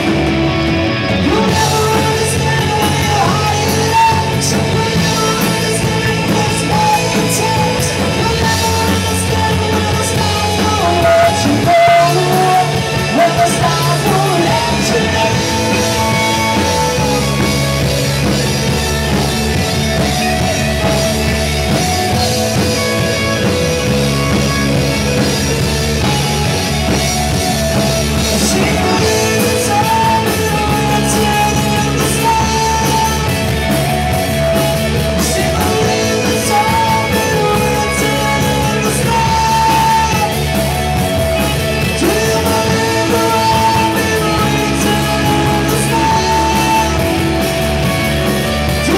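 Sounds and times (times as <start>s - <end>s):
drum kit: 0.0s - 48.9s
electric bass: 0.0s - 48.9s
electric guitars: 0.0s - 48.9s
man singing: 0.9s - 18.5s, 25.2s - 48.9s.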